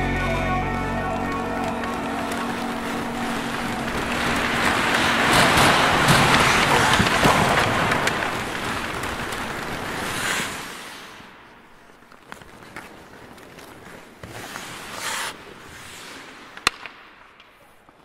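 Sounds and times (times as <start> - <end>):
skate blades scraping ice: 0.9 - 18.0.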